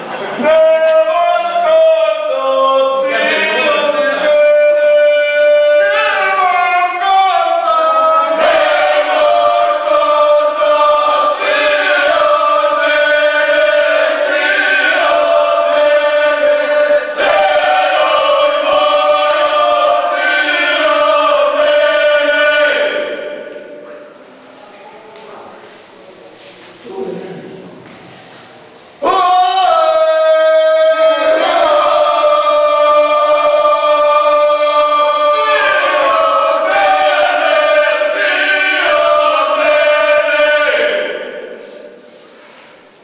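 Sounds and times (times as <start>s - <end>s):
group folk singing: 0.0s - 23.8s, 29.0s - 43.0s.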